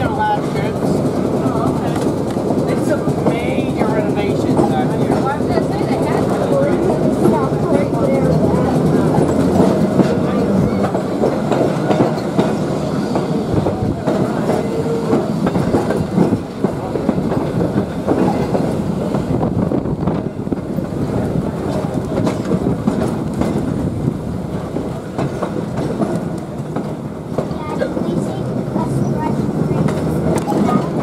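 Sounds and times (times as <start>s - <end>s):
rail car rumbling: 0.0s - 31.0s
wheels clicking over rail joints: 0.0s - 31.0s.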